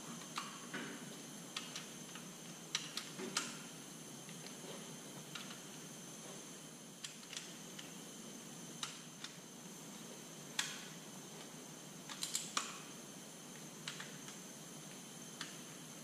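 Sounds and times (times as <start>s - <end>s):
steady shop hiss: 0.0s - 16.0s.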